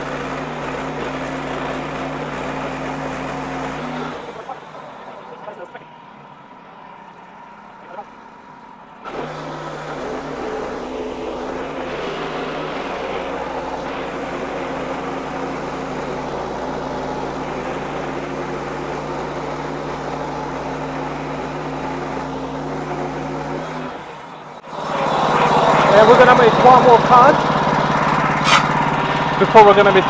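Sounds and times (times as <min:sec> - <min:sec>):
band sawmill cutting log: 0:00.0 - 0:05.9, 0:09.0 - 0:30.0.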